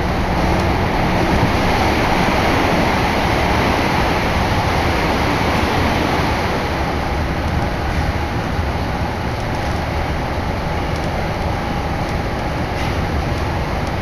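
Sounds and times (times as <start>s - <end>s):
subway train roar: 0.0s - 14.0s.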